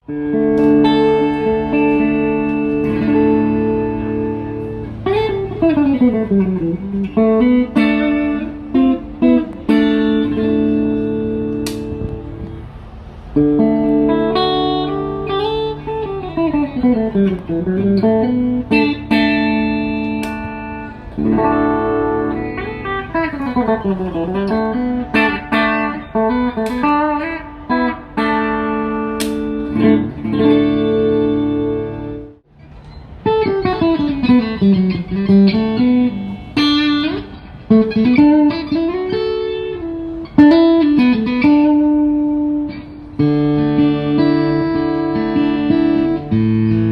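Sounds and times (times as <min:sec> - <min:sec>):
guitar chords and runs: 0:00.0 - 0:46.9.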